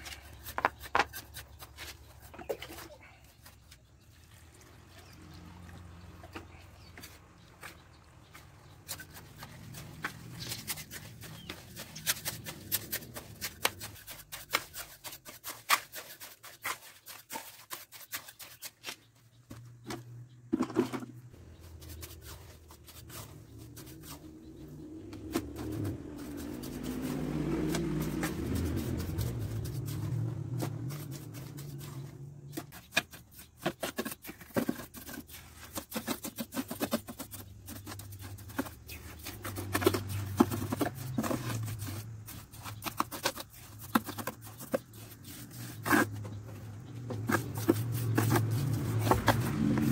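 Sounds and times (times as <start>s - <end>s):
trowel scraping mortar in bucket: 0.0s - 4.1s, 6.2s - 19.6s, 20.5s - 49.9s.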